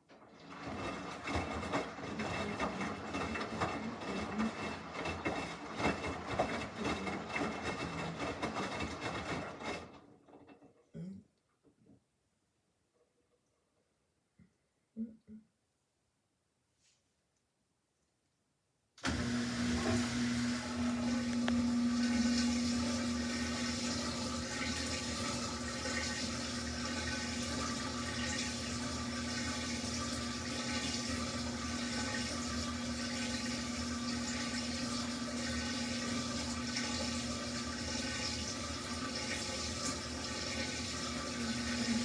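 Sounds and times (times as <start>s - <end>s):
washing machine humming: 0.0s - 10.8s, 19.0s - 42.0s.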